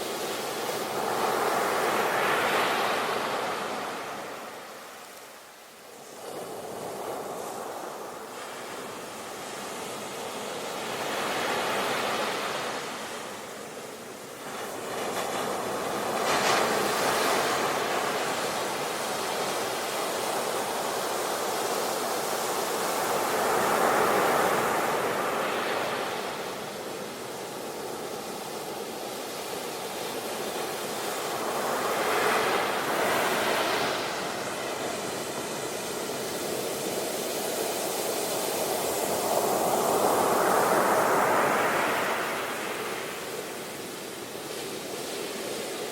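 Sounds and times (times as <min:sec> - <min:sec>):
ocean waves breaking on beach: 0:00.0 - 0:45.9.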